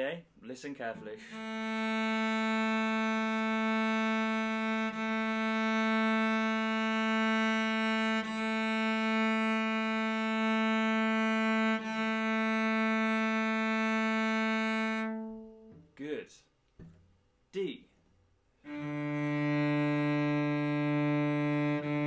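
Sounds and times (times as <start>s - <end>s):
cello bowed long note: 1.0s - 15.8s, 18.7s - 22.0s.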